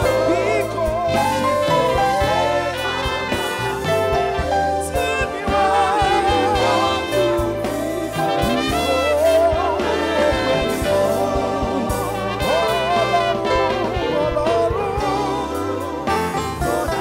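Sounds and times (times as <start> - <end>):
band accompaniment: 0.0 - 17.0
bass line: 0.0 - 17.0
drums: 0.0 - 17.0.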